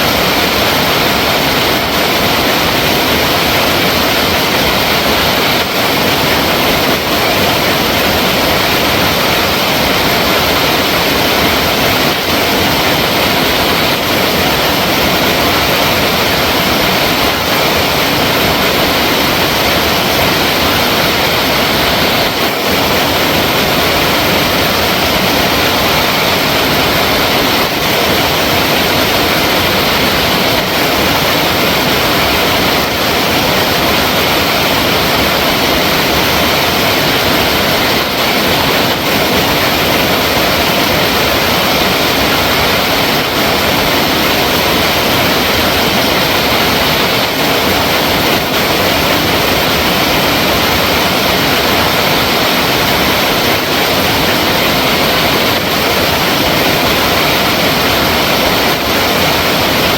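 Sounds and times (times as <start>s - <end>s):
water flowing loudly: 0.0s - 59.9s.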